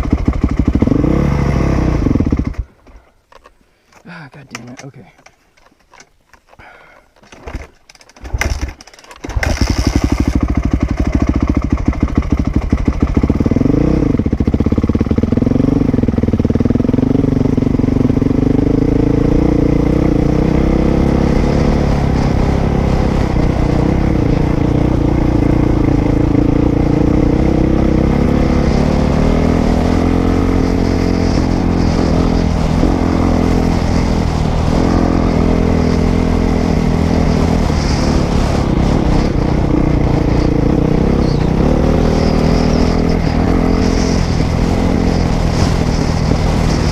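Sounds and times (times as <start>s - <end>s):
dirt bike engine revving: 0.0s - 2.7s, 8.4s - 46.9s.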